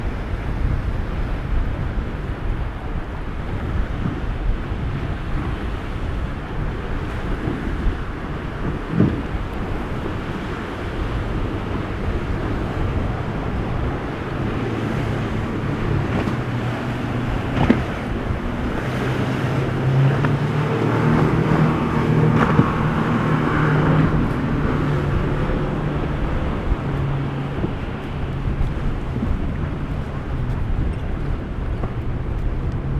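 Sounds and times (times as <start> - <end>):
boat engine droning: 0.0 - 32.9.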